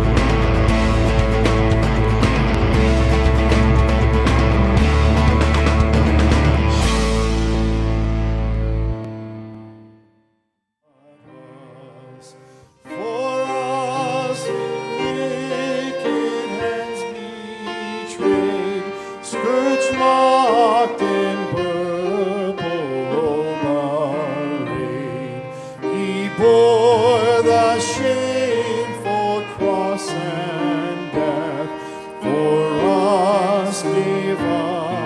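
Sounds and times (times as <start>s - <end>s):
church music with vibrato melody: 0.0s - 35.0s.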